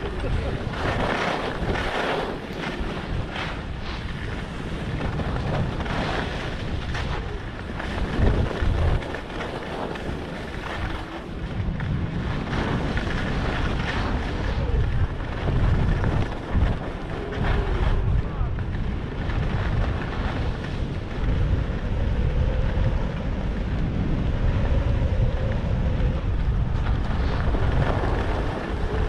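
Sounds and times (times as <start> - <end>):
skis scraping on snow: 0.0 - 22.2, 26.0 - 29.0
wind buffeting microphone: 0.0 - 29.0.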